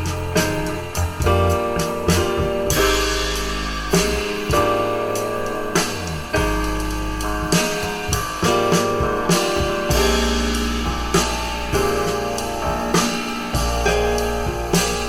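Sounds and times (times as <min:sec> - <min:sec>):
drum kit: 0:00.0 - 0:15.0
sustained bass line: 0:00.0 - 0:15.0.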